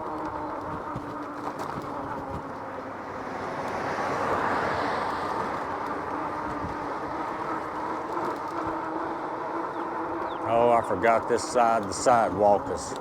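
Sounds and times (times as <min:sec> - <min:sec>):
street noise: 0:00.0 - 0:13.0
vehicle passing on road: 0:00.0 - 0:13.0.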